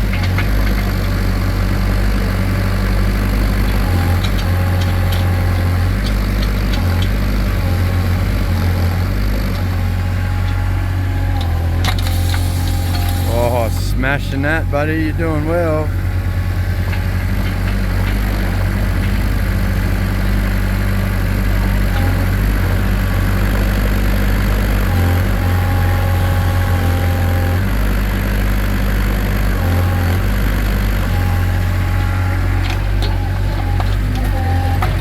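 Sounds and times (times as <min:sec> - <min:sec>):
excavator engine running: 0:00.0 - 0:35.0.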